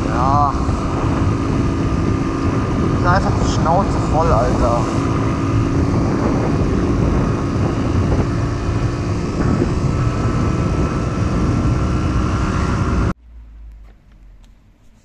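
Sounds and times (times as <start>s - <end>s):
heavy wind noise: 0.0s - 13.2s
motorcycle engine at low revs: 0.0s - 14.8s
road noise: 0.0s - 15.0s.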